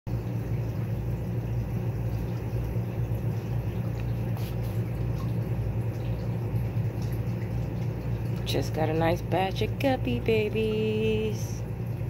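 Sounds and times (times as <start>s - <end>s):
low electrical hum: 0.1s - 12.0s.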